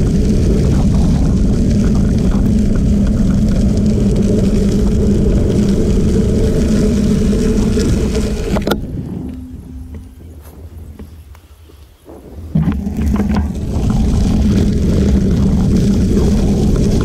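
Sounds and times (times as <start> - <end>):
tyres rolling on gravel: 0.0 - 17.0
wind on microphone: 0.0 - 17.0.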